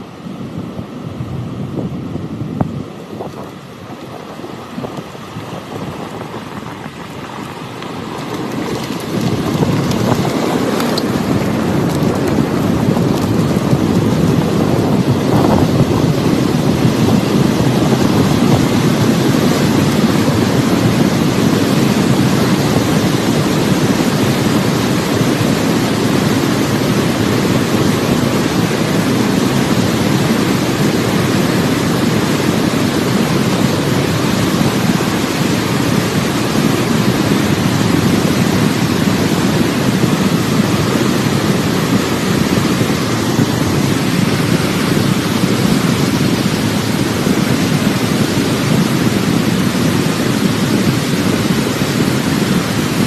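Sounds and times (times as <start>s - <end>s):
floodwater rushing: 3.4s - 53.0s.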